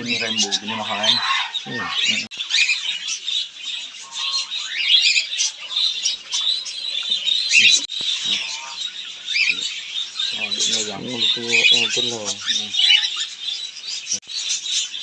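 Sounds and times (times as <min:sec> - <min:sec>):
caged birds chattering and squawking: 0:00.0 - 0:15.0.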